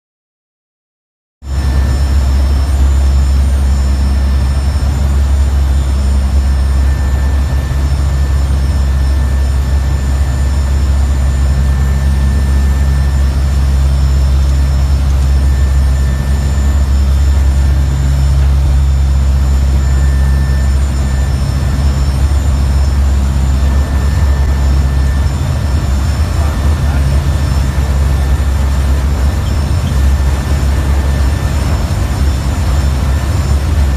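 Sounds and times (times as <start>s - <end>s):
aircraft engines droning: 1.5s - 33.9s
faint steady high tones: 1.6s - 33.9s.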